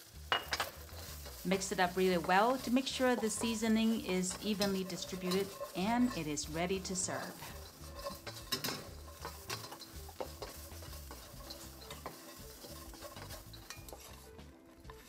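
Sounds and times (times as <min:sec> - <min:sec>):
faint sizzle: 0:00.0 - 0:15.0
spatula clicking and scraping wok: 0:00.0 - 0:15.0.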